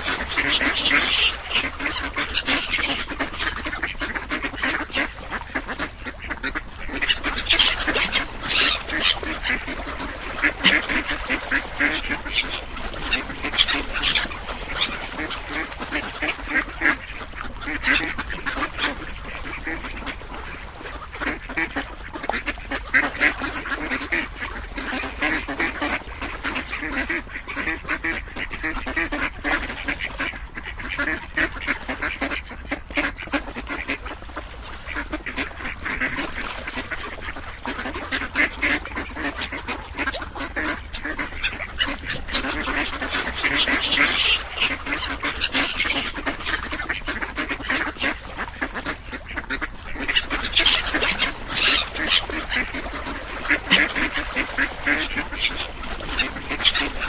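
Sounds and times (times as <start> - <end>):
ducks quacking: 0.0 - 57.0.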